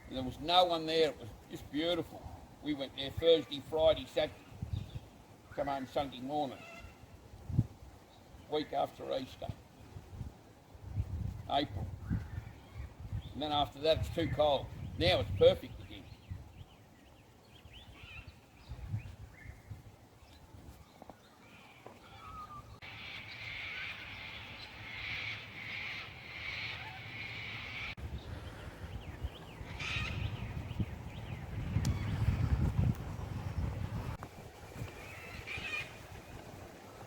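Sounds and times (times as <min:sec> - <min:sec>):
birds pulsing calls: 0:01.5 - 0:07.2, 0:11.0 - 0:32.8, 0:34.6 - 0:37.0.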